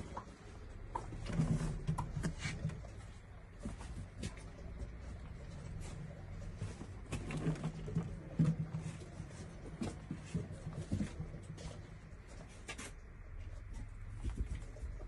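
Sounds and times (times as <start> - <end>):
low steady hum: 0.0 - 15.0
rabbit tapping and rustling: 0.0 - 15.0.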